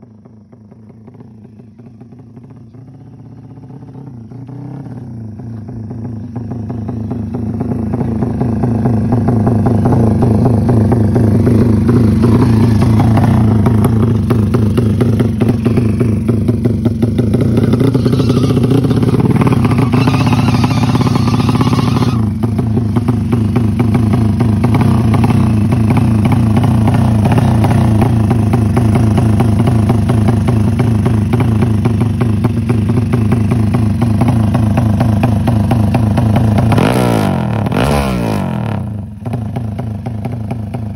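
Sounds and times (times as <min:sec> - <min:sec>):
motorcycle engine fast idle: 0:00.0 - 0:36.8, 0:38.9 - 0:40.9.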